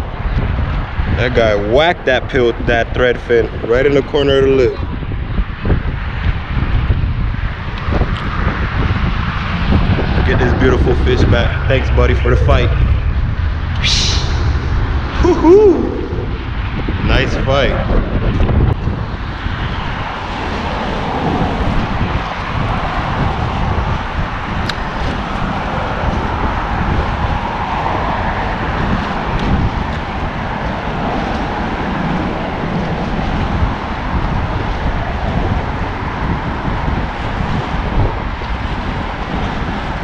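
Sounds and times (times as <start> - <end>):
wind blowing across microphone: 0.0 - 40.0.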